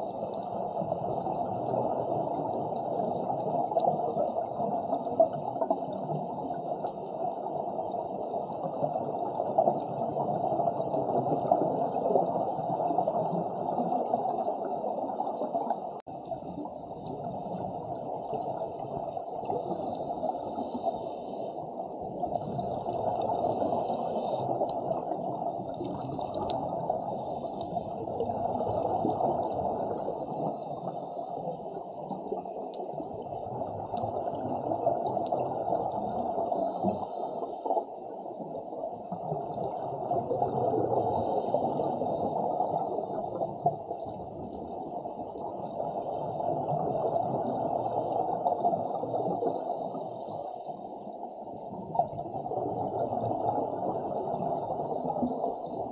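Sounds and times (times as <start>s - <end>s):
low rush of water underwater: 0.0s - 55.9s.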